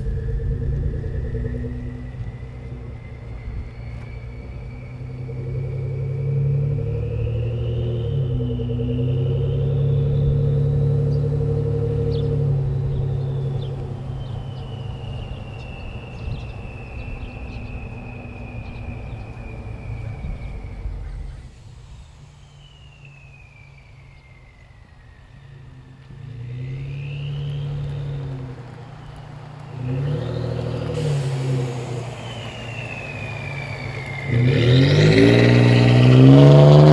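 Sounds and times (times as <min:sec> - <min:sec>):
high turbo whistle: 0:00.0 - 0:36.9
truck exhaust rumbling: 0:00.0 - 0:36.9.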